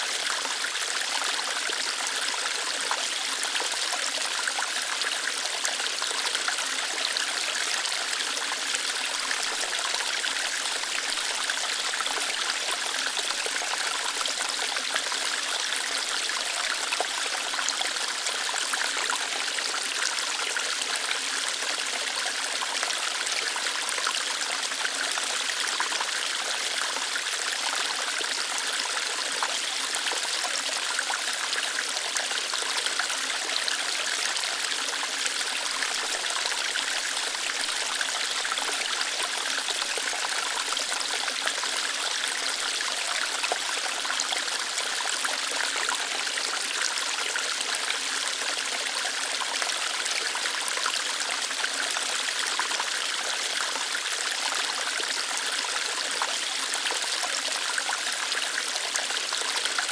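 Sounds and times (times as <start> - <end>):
small waterfall over rocks: 0.0 - 59.9.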